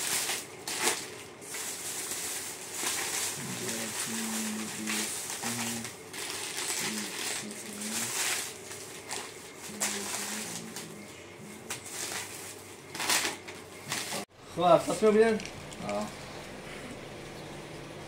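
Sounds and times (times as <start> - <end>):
plastic bag rustling: 0.0 - 16.3.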